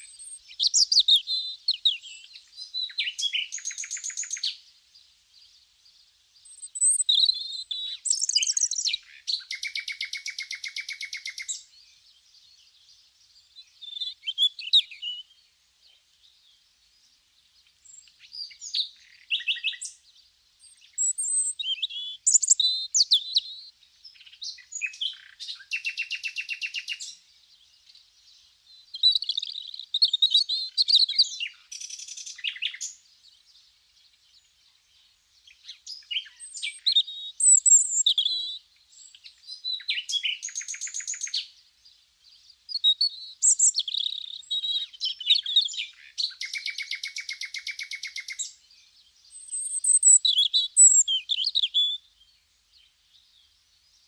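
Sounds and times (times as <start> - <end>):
songbird singing with trills: 0.0 - 54.0.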